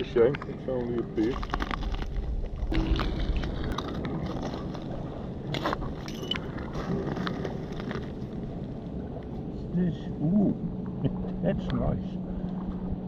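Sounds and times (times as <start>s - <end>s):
river water: 0.0s - 13.0s
wind: 0.0s - 13.0s.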